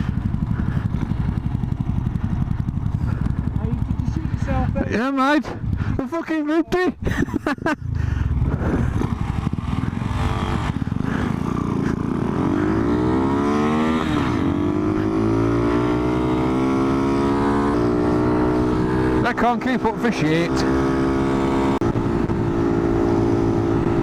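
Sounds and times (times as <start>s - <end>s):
small motorbike engine revving: 0.0s - 4.8s, 7.9s - 24.0s.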